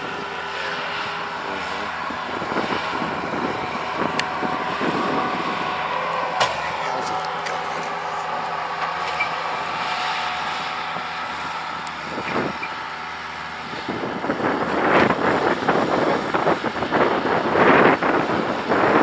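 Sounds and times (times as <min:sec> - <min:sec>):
skid loader engine running: 0:00.0 - 0:19.0.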